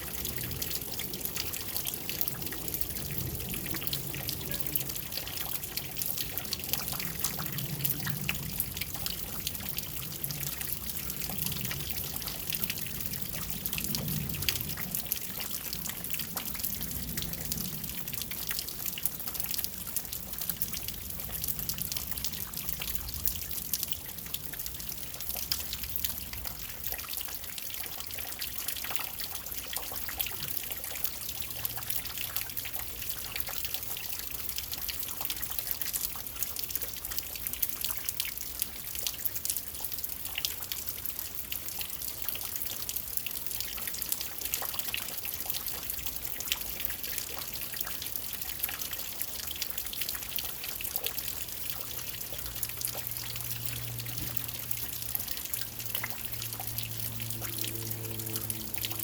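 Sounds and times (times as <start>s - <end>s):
rain drops pattering: 0.0s - 59.0s
water trickling and dripping: 0.0s - 59.0s.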